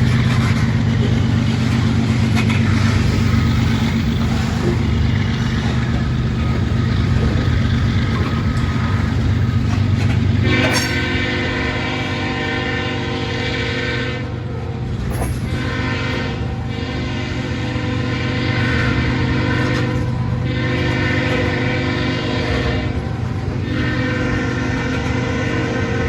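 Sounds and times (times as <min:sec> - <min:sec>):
diesel locomotive droning: 0:00.0 - 0:26.0
locomotive air horn chord: 0:02.4 - 0:14.5, 0:15.4 - 0:26.0.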